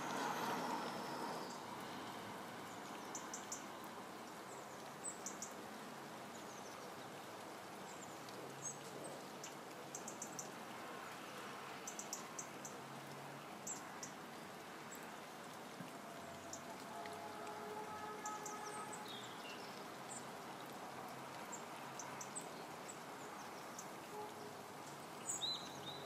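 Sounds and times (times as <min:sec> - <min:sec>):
rain hissing: 0:00.0 - 0:26.0.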